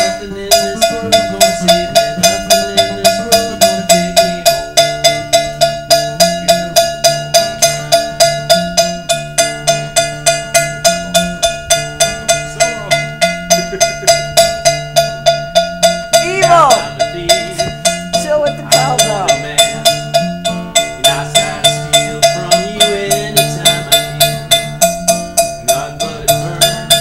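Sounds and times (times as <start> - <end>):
cowbell struck with stick: 0.0 - 27.0
strummed acoustic guitar: 0.0 - 27.0.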